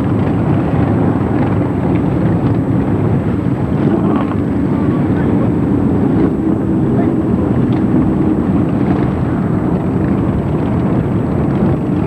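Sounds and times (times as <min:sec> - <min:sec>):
motorcycle engines running: 0:00.0 - 0:12.0
wind on microphone: 0:00.0 - 0:12.0.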